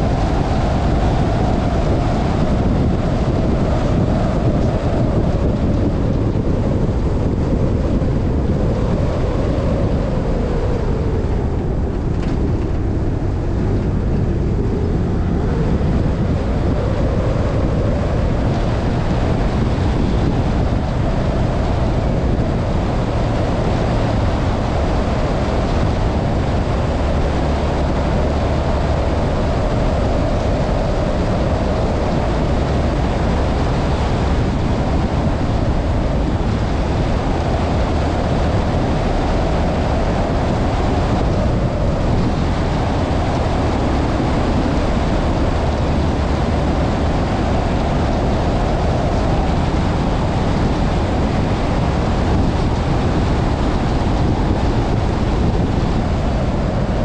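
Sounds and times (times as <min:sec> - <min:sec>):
car engine: 0:00.0 - 0:57.0.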